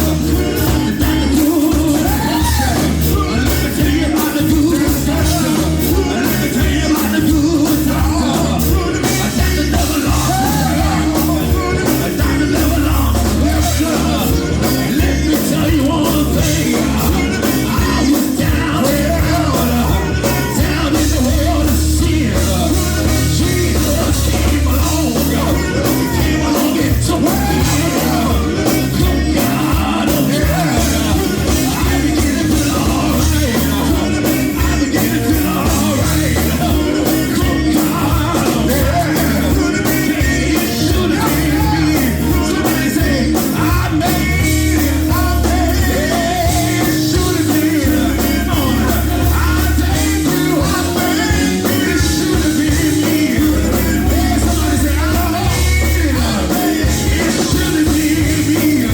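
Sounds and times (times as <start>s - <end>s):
gospel band playing: 0.0s - 58.9s
voices singing and shouting: 0.0s - 58.9s.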